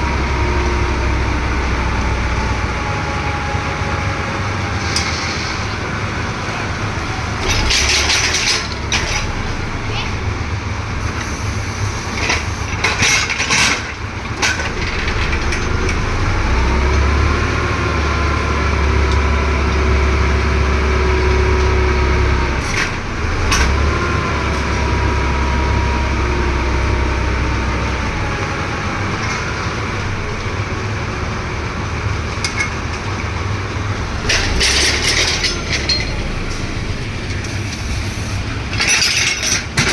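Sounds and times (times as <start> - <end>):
drilling machine engine running: 0.0 - 39.9.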